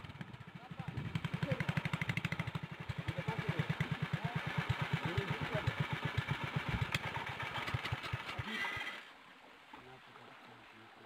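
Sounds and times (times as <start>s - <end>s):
motorboat engine putter: 0.0s - 9.1s
water and wind hiss: 0.0s - 11.0s.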